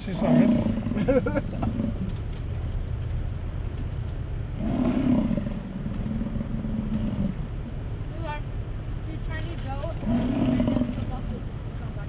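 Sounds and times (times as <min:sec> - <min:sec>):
rough low drone: 0:00.0 - 0:12.0
vehicle engine idling: 0:00.0 - 0:12.0.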